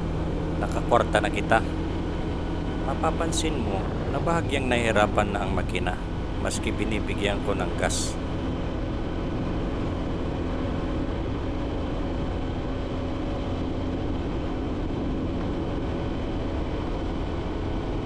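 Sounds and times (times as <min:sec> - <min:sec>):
motorcycle engine labouring: 0:00.0 - 0:18.0
wind and road noise: 0:00.0 - 0:18.0.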